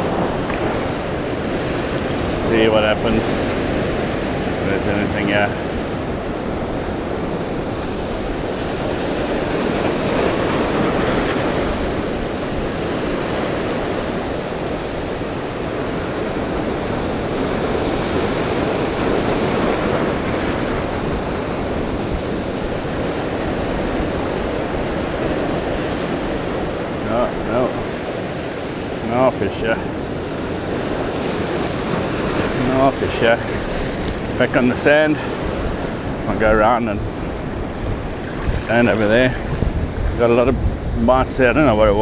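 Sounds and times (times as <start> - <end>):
sea surf breaking over rocks: 0.0 - 42.0.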